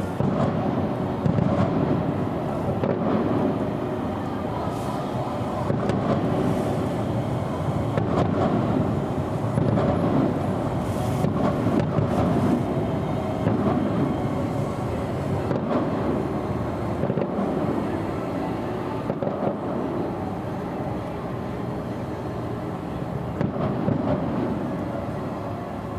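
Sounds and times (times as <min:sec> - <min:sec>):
distant fireworks rumble: 0:00.0 - 0:25.9.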